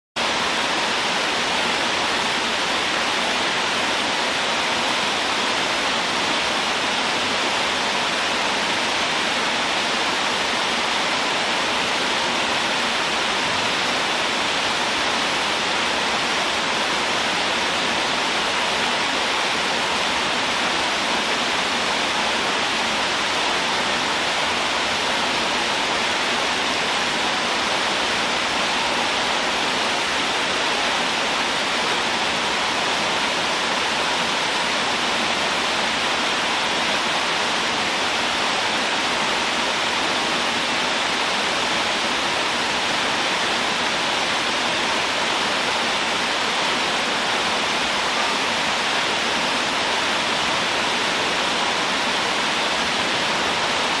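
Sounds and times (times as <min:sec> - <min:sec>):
fountain water splashing: 0:00.2 - 0:54.0.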